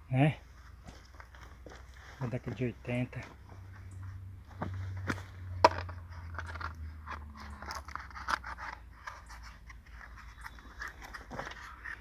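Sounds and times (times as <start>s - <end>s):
rubbish and gravel crunching: 0.6s - 12.0s.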